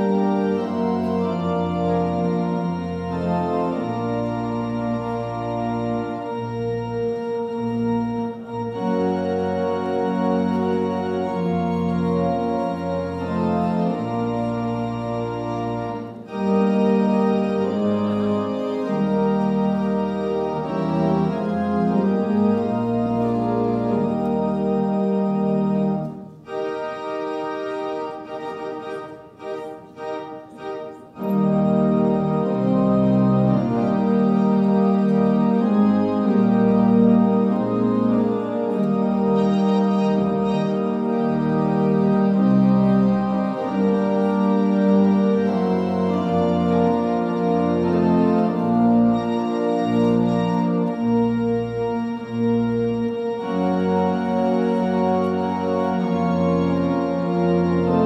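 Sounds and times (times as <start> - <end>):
organ playing held chords: 0.0 - 58.0.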